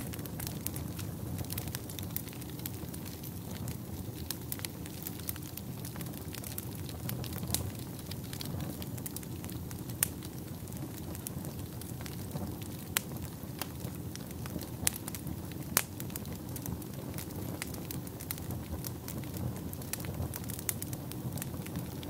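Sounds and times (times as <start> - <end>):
fire crackling: 0.0 - 22.0
wood fire pops: 0.0 - 22.0.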